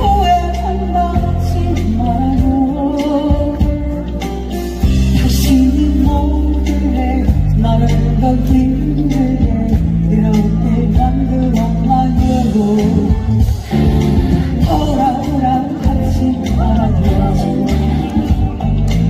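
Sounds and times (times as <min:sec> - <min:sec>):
woman singing into a microphone: 0:00.0 - 0:04.2, 0:05.0 - 0:13.5, 0:14.6 - 0:18.6
amplified pop backing track: 0:00.0 - 0:19.0.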